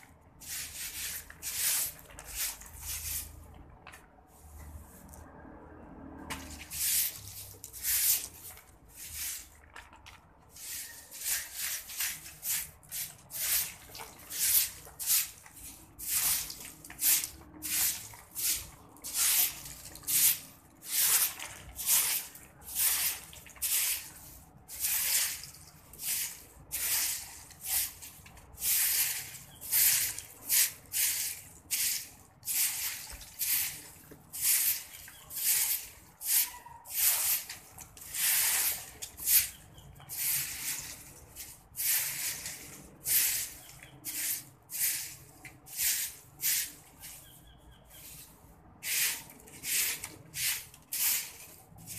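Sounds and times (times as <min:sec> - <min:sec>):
broom sweeping concrete floor: 0:00.0 - 0:05.4, 0:06.1 - 0:51.9.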